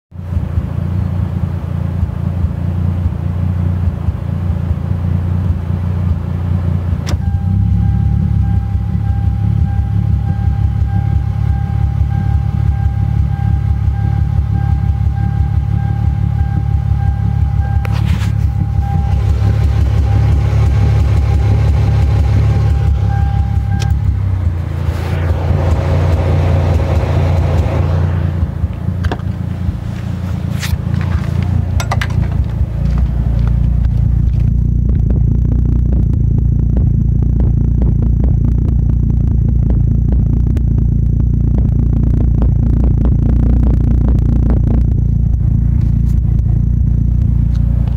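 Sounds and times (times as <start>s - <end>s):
steady high whine: 0.1s - 47.9s
car engine idling roughly: 0.2s - 47.9s.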